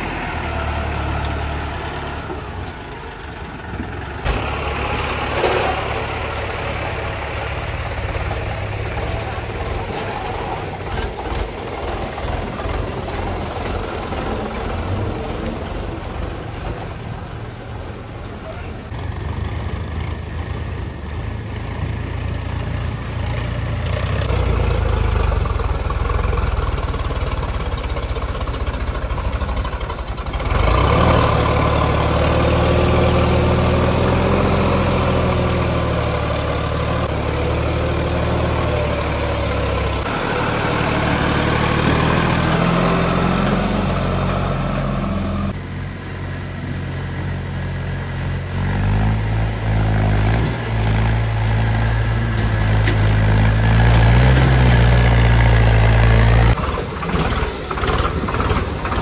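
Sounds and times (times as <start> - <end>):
diesel tractor engines idling: 0.0 - 59.0.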